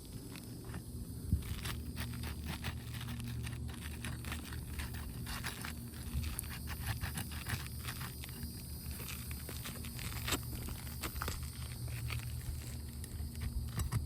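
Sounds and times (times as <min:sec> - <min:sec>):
steady low rumble: 0:00.0 - 0:14.0
clicks and scrapes on roof shingles: 0:00.4 - 0:14.0.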